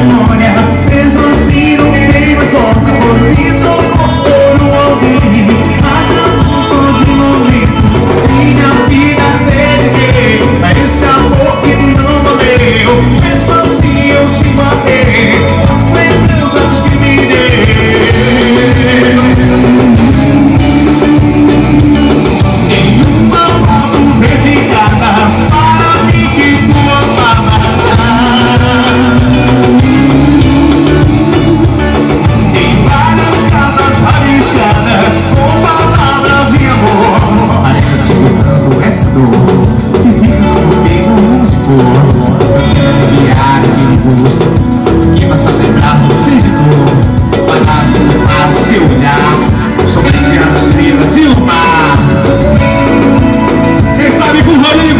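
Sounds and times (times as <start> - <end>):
drums: 0.0 - 54.9
live band playing dance music: 0.0 - 54.9
man singing: 0.0 - 54.9.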